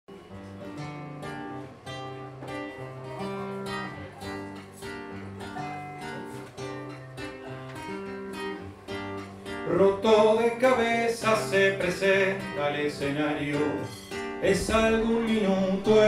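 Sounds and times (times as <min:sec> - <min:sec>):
classical guitar playing chords: 0:00.1 - 0:16.0.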